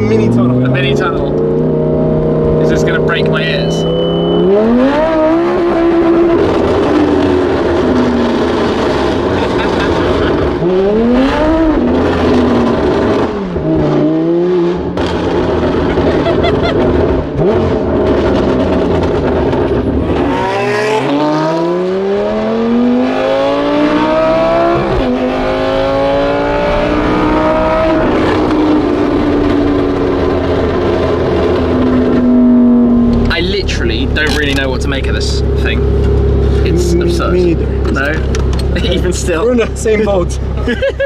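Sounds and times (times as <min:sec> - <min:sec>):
car engine revving and shifting: 0:00.0 - 0:40.7.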